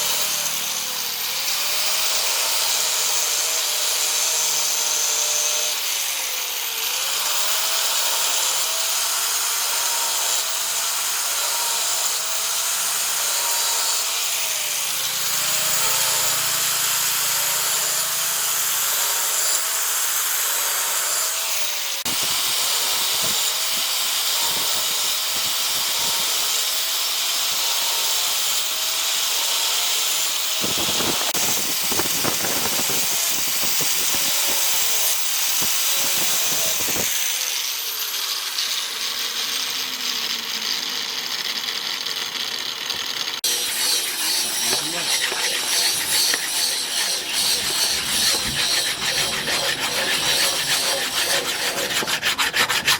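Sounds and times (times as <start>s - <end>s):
electric power tool grinding: 0.0s - 52.9s.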